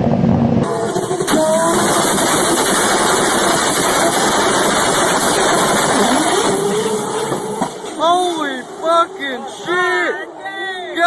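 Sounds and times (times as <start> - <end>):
car engine running: 0.0 - 10.4
loud rushing noise: 0.0 - 11.0.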